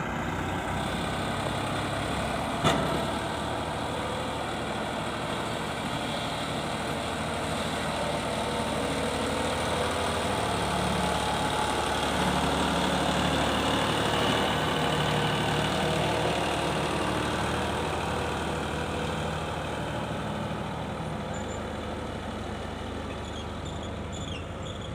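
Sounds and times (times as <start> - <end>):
heavy vehicle engine running: 0.0 - 24.9.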